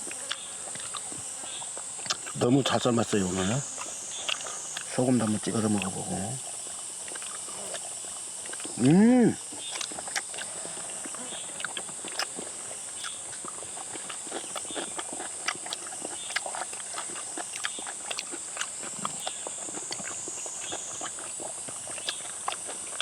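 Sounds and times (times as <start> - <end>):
chewing and lip-smacking: 0.0 - 23.0
steady high-pitched hiss: 0.0 - 23.0.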